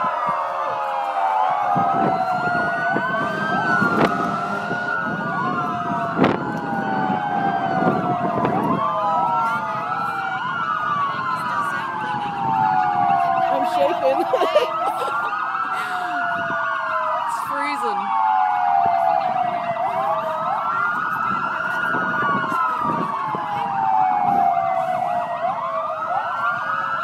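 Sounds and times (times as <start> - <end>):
emergency sirens wailing: 0.0 - 27.0.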